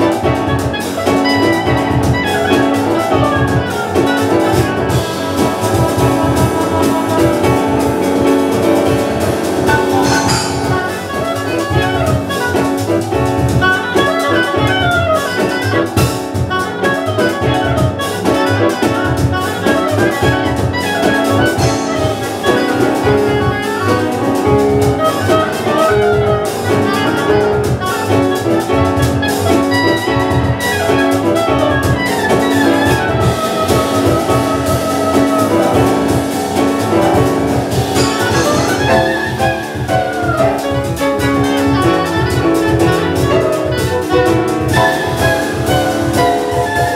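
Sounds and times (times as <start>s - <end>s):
double bass: 0.0s - 46.9s
oboe playing fast runs: 0.0s - 46.9s
percussion: 0.0s - 46.9s
piano: 0.0s - 46.9s.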